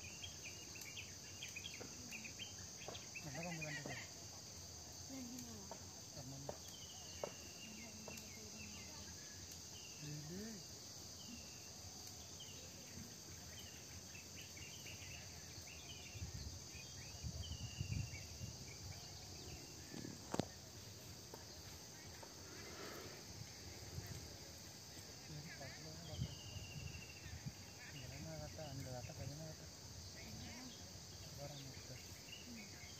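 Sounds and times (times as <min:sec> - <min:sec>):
crickets trilling: 0:00.0 - 0:32.9
insect chirps: 0:00.0 - 0:32.9.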